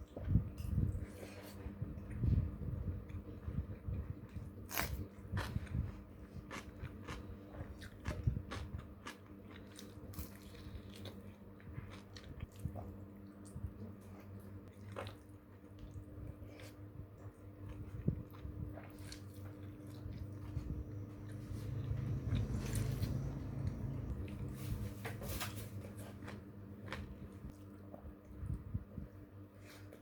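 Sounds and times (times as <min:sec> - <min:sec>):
person chewing crunchy food: 0:03.1 - 0:24.8, 0:25.5 - 0:28.0.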